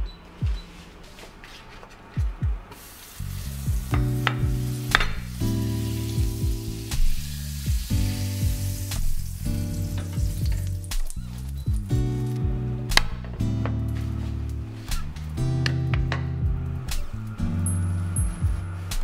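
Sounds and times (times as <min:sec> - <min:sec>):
music with deep bass thumps: 0:00.0 - 0:00.8, 0:02.2 - 0:19.0.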